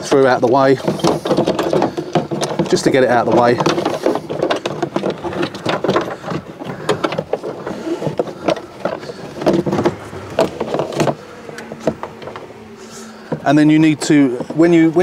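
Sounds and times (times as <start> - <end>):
plastic trim panel rattling: 0.0 - 12.5
garbage truck running: 0.0 - 15.0.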